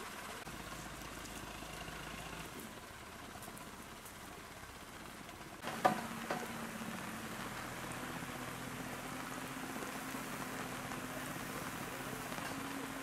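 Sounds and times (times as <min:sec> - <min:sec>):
rain falling on foliage: 0:00.0 - 0:13.0.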